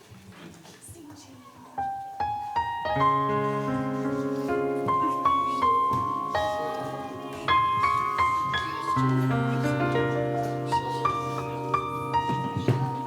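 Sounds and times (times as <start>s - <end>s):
slow piano melody: 1.8s - 13.0s.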